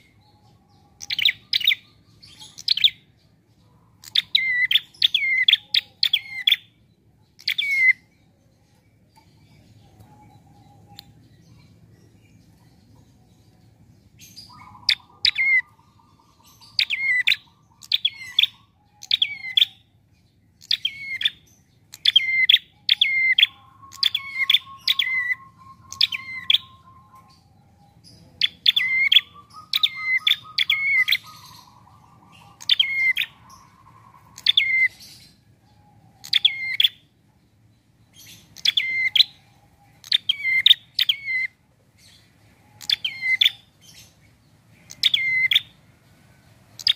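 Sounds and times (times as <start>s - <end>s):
songbird calling: 0.0s - 37.2s, 38.0s - 45.8s.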